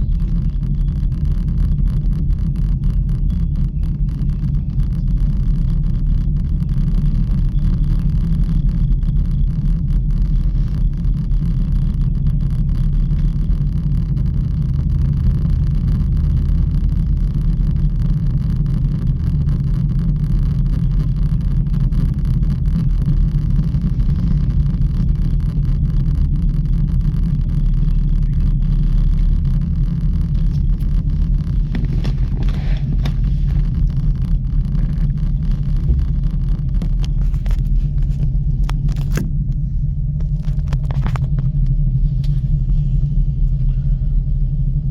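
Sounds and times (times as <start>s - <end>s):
gondola rumbling: 0.0s - 44.9s.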